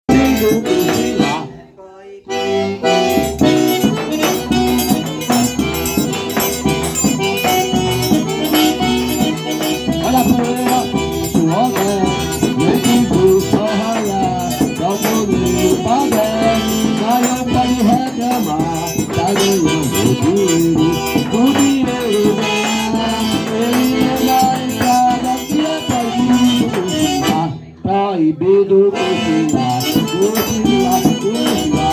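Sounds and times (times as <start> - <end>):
steady percussion: 0.1 - 1.5, 2.8 - 27.6, 29.0 - 31.9
button accordion melody: 0.1 - 31.9.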